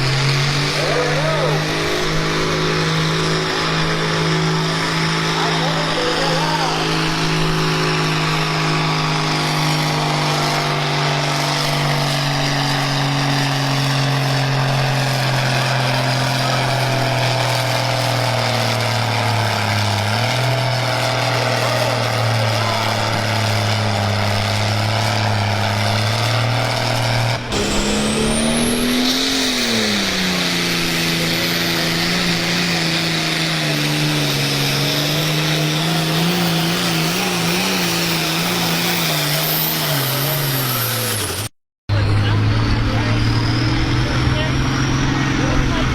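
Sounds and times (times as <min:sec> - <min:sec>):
tractor engine running hard: 0:00.0 - 0:45.9.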